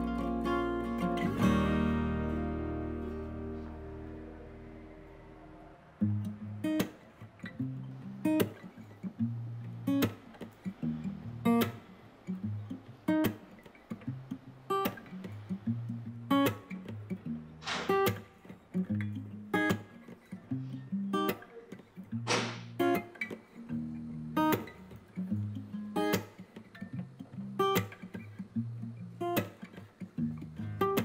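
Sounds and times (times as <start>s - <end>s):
acoustic guitar music with beat: 0.0s - 5.4s, 6.0s - 31.0s.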